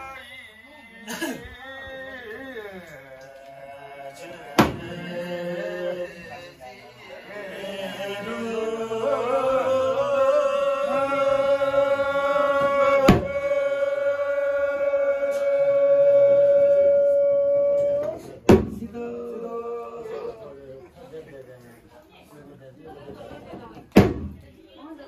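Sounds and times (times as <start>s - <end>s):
voices chanting slow song: 0.0s - 20.9s.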